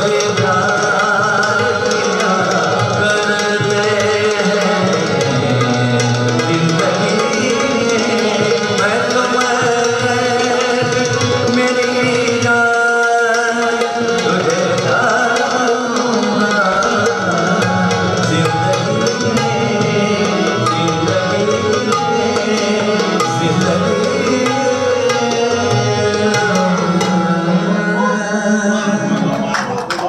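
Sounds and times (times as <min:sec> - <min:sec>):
tabla strokes: 0:00.0 - 0:27.7
harmonium melody: 0:00.0 - 0:30.0.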